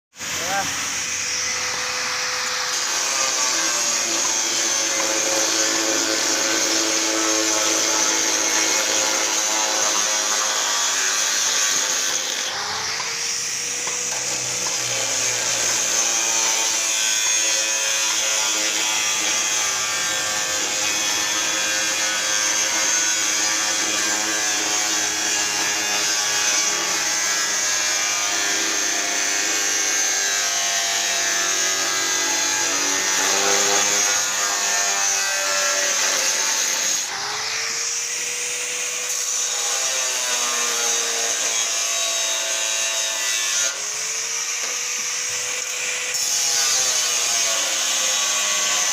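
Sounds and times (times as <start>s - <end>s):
angle grinder cutting steel: 0.2s - 48.9s.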